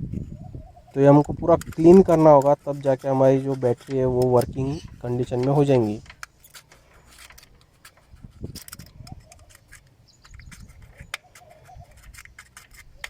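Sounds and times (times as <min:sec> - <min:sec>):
metal tool scraping battery terminal: 0:00.1 - 0:13.0.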